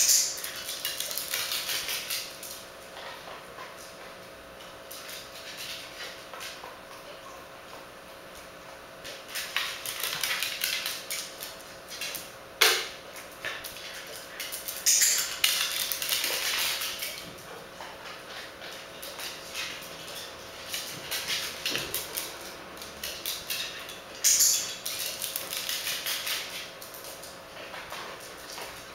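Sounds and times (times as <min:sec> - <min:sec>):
dog claws tapping on tile floor: 0:00.0 - 0:28.9.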